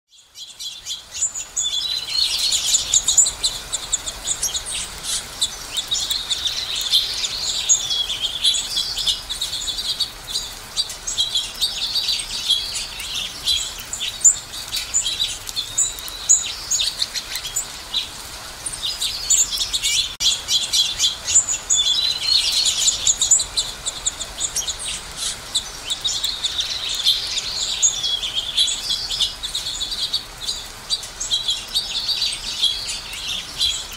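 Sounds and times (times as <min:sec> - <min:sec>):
finches chirping: 0:00.1 - 0:33.9
warbling bird songs: 0:00.1 - 0:33.9.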